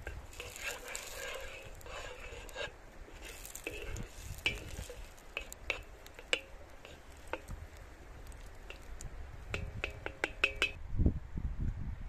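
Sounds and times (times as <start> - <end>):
wooden spoon knocking metal wok: 0.0 - 10.8.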